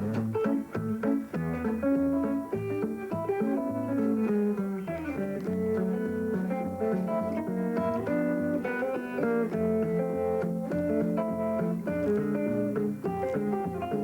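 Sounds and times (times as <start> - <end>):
thumbpicked guitar: 0.0 - 14.0.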